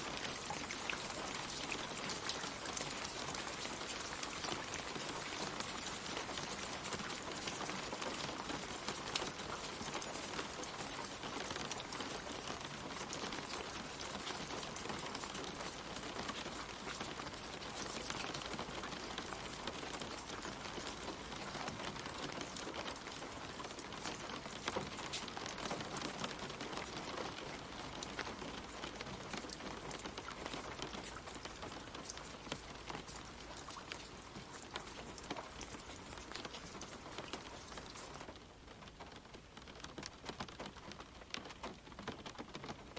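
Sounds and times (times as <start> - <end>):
rain pattering on leaves: 0.0 - 42.9.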